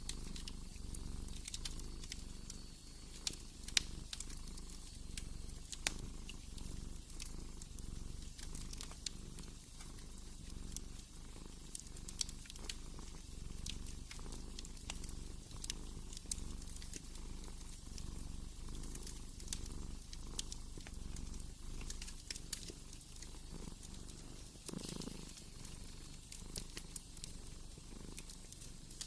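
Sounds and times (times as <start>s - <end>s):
cat purring: 0.0s - 29.0s
wood fire crackling: 0.0s - 29.0s.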